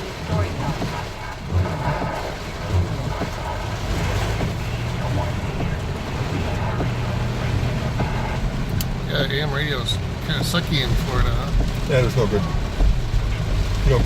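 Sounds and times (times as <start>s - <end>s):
car engine and tyre noise: 0.0s - 14.0s.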